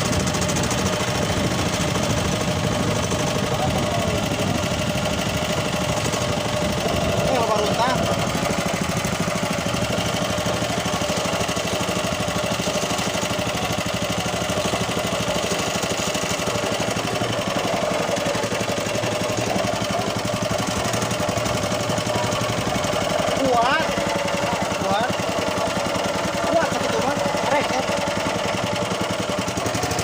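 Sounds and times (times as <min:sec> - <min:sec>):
boat engine running steadily: 0:00.0 - 0:30.0.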